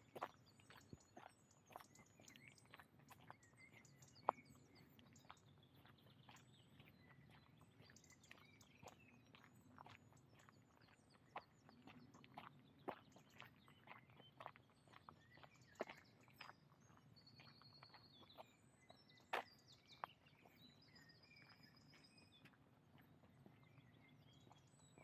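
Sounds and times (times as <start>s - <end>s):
faint footsteps on path: 0.0s - 25.0s
small birds chirping: 0.0s - 25.0s.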